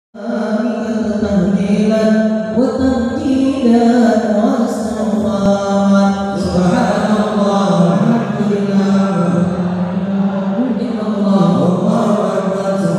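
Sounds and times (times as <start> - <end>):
men chanting devotional melody: 0.6 - 12.9.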